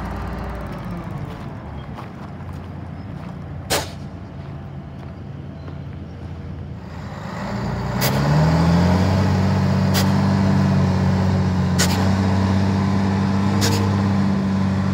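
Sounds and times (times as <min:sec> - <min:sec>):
dump truck diesel engine: 0:00.0 - 0:14.9.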